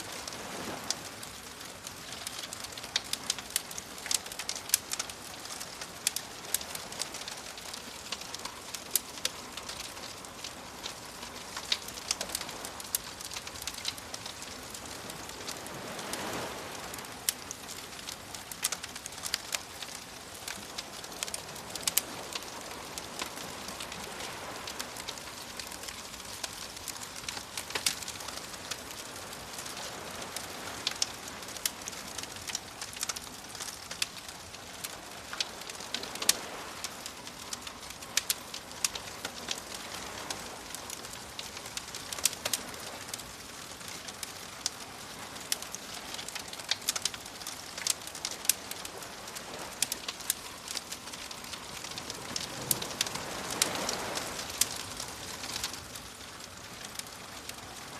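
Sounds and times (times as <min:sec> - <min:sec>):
soft waves: 0:00.0 - 0:57.9
wood fire crackling and popping: 0:00.1 - 0:57.9.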